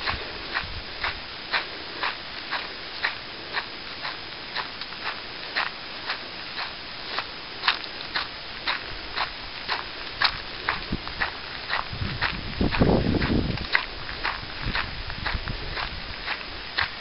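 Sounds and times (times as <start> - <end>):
footsteps crunching on dirt trail: 0.0 - 17.0.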